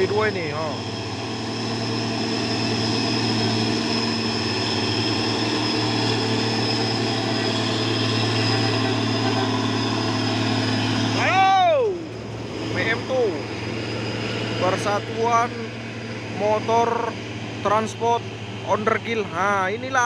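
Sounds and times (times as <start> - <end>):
truck driving past: 0.0 - 20.0.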